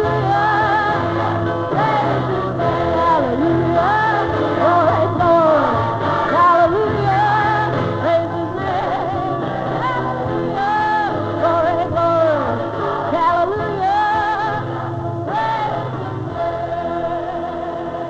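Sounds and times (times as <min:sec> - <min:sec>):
person singing with band: 0:00.0 - 0:18.0.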